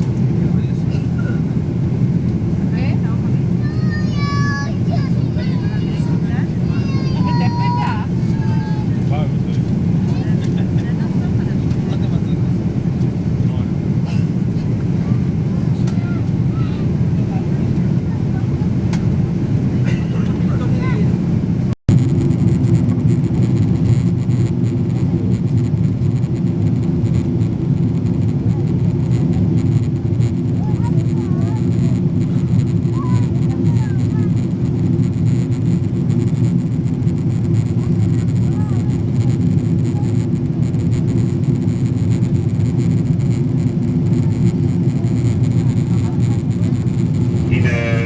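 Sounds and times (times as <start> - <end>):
jet engine and airflow rumble: 0.0 - 48.0.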